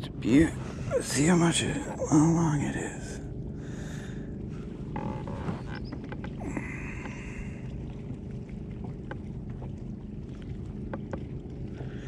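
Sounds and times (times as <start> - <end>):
aerator humming: 0.0 - 12.0.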